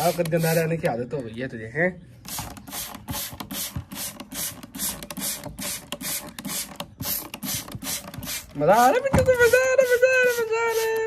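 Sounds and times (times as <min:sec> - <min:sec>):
spray bottle squirting: 0:00.0 - 0:00.9, 0:02.3 - 0:11.0.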